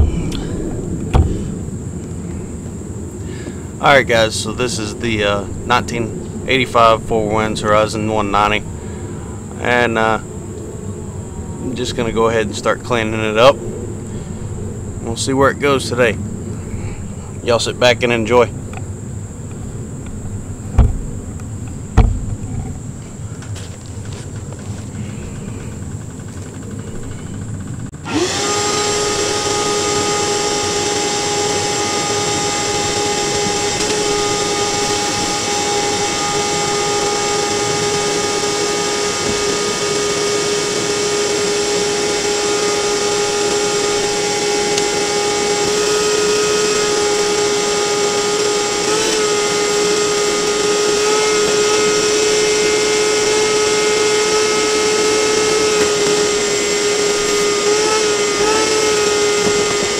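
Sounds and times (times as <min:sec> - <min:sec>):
cleaning machine whining: 0:00.0 - 0:16.0, 0:23.6 - 0:59.9.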